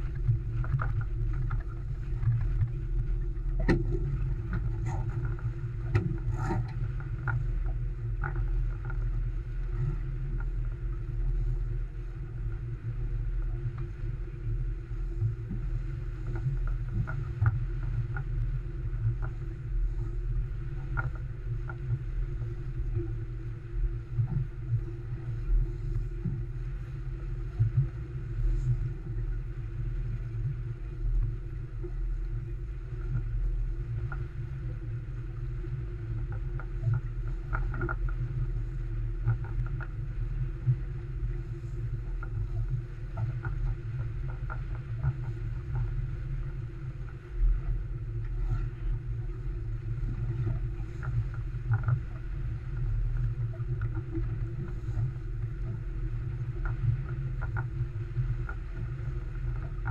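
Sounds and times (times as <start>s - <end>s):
water rushing along hull: 0.0s - 59.9s
wind on microphone: 0.0s - 59.9s.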